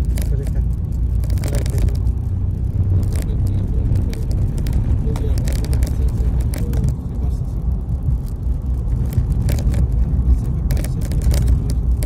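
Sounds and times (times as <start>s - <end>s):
light clicks and rattles: 0.0s - 2.4s, 3.0s - 12.0s
vehicle road and engine rumble: 0.0s - 12.0s.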